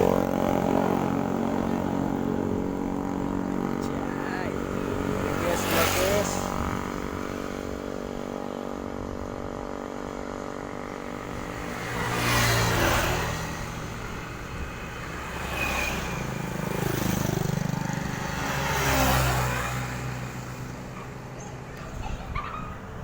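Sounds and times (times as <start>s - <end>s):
vehicle rushing past: 0.0s - 9.0s, 11.0s - 23.0s.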